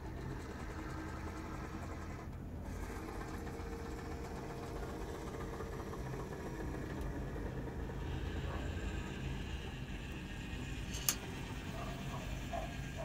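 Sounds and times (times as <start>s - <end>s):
small electric gear motors running: 0.0s - 13.0s.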